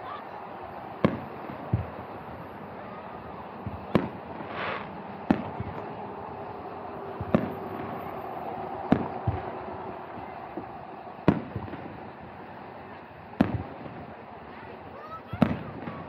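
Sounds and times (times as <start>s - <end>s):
distant fireworks booming: 0.0s - 16.0s.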